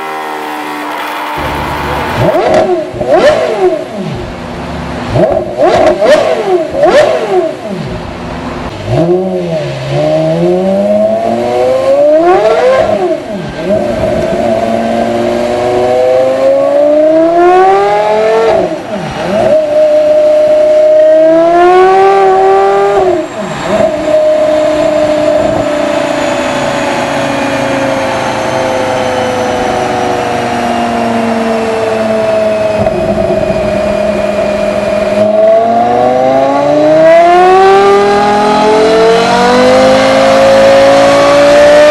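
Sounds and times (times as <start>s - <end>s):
sports car engine accelerating: 0.0s - 41.9s.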